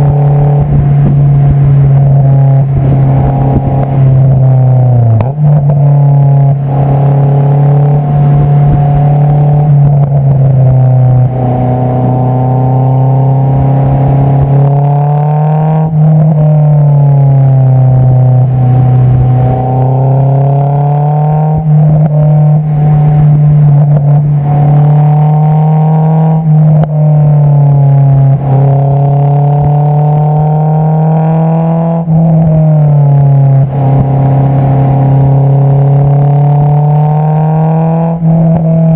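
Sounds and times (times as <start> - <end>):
car exhaust while accelerating: 0.0 - 38.9.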